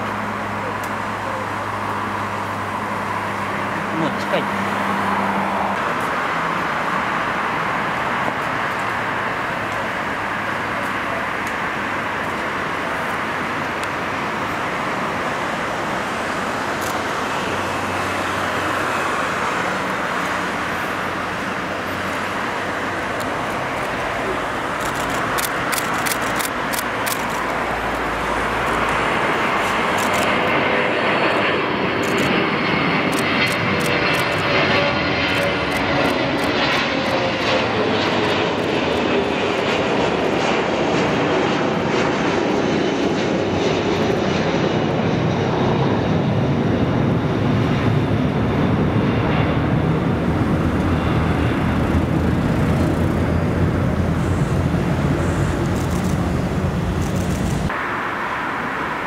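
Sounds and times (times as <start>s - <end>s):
jet engines passing by: 0.0s - 59.0s.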